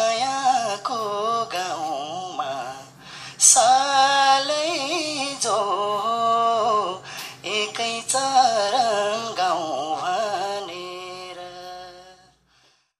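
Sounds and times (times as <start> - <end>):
person singing folk song: 0.0 - 12.4.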